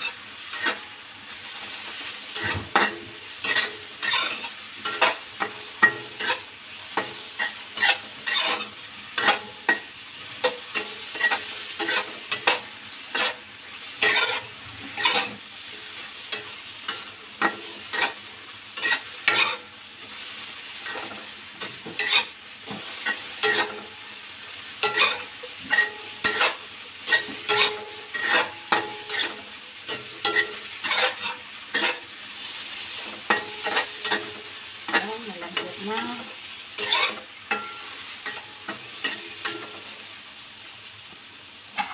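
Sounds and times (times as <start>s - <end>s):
metal spatula scraping a wok: 0.0s - 0.9s, 1.5s - 24.2s, 24.8s - 40.1s
eggplant sizzling in oil: 0.0s - 41.9s.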